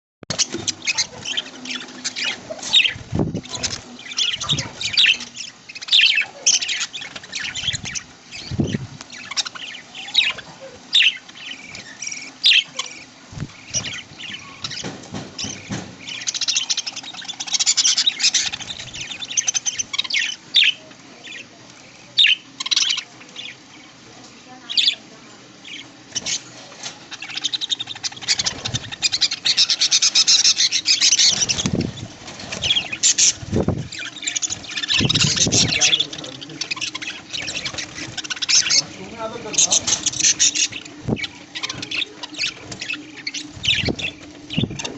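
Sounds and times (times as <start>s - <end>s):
budgies chattering: 0.3s - 44.9s.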